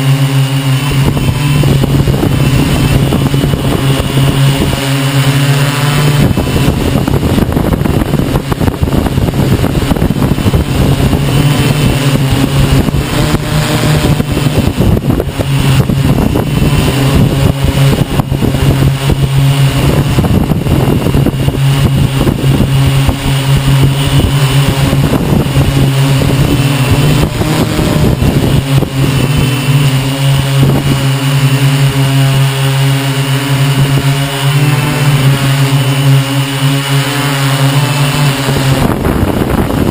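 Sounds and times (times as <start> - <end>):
drone propellers humming: 0.0 - 39.9
wind buffeting microphone: 0.0 - 39.9.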